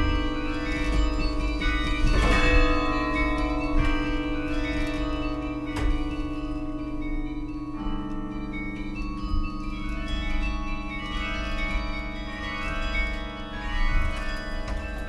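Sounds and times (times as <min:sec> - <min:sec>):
carillon bells ringing: 0:00.0 - 0:15.0.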